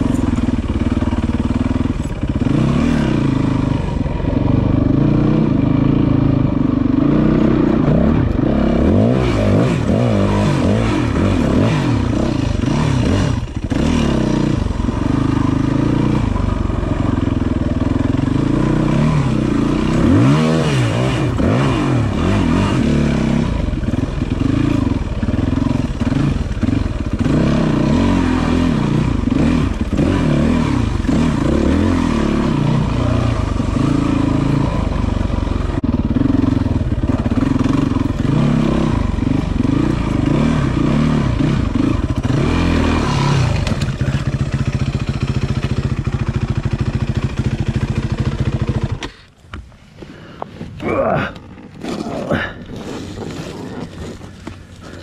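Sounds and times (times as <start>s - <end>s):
dirt bike engine revving: 0.0s - 49.3s, 50.2s - 55.0s.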